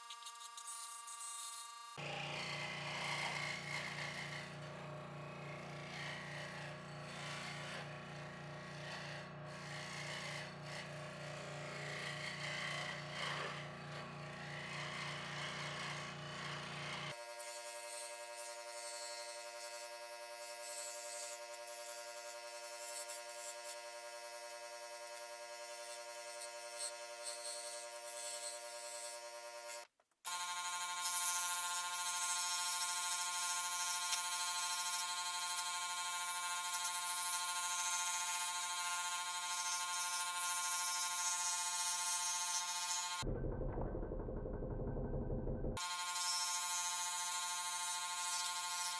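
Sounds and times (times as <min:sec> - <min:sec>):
scroll saw cutting wood: 0:00.0 - 0:43.3, 0:45.8 - 0:48.9.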